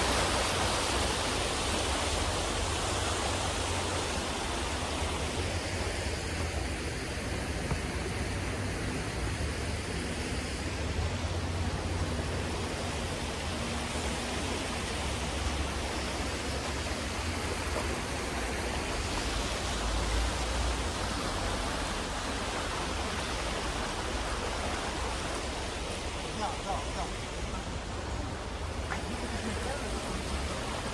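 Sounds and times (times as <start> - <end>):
river water rushing: 0.0 - 30.9.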